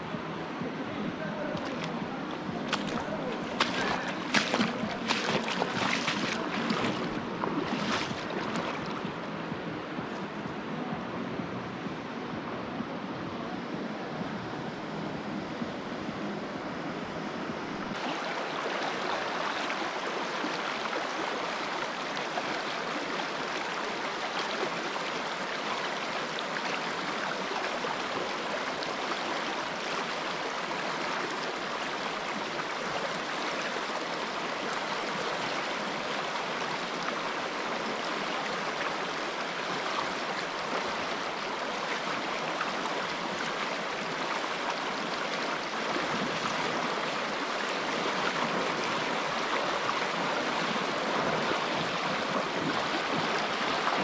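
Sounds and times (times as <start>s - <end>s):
mountain stream rushing: 0.0s - 14.1s, 14.9s - 54.0s.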